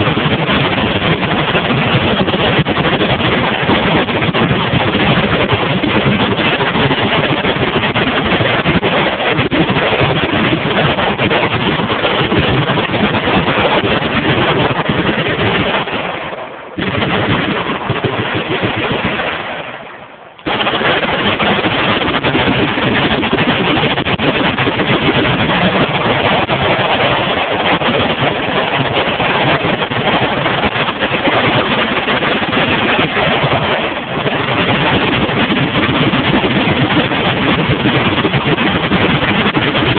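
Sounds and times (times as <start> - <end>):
machine guns firing in bursts: 0.0 - 39.9.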